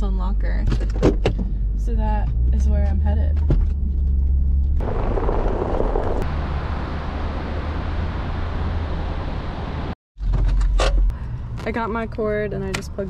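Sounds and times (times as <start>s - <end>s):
road and tyre noise inside car: 0.2s - 13.0s.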